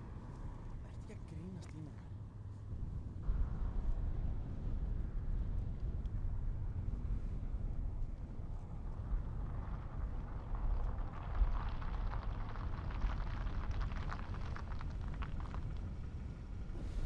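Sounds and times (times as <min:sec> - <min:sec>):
car tyres on asphalt: 0:00.0 - 0:17.0
low rumble of wind: 0:00.0 - 0:17.0.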